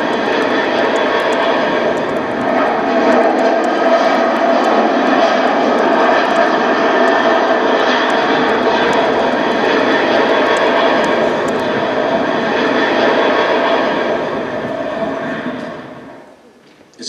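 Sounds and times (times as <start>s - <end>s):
plane passing overhead over loudspeakers: 0.0s - 17.0s.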